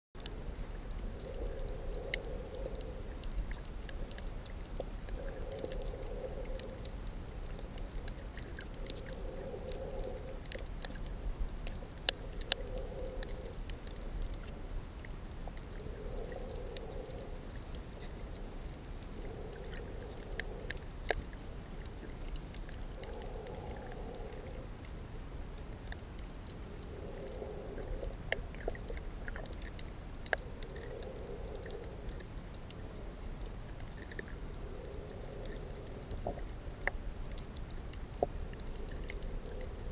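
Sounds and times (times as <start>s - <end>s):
sharp underwater clicks: 0.2s - 39.9s
underwater low rumble: 0.2s - 39.9s.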